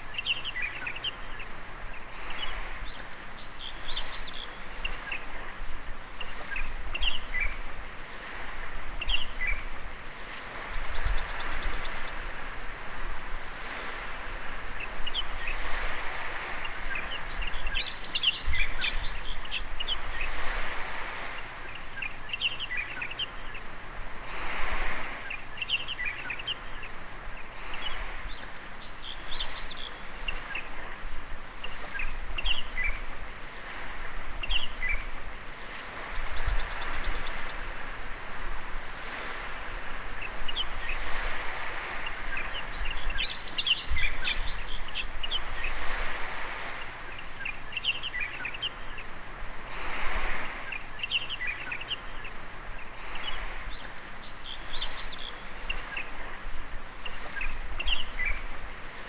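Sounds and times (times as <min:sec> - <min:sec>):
birds chirping: 0:00.0 - 0:12.9, 0:13.6 - 0:23.8, 0:24.6 - 0:59.0
small waves washing onto beach: 0:00.0 - 0:59.0.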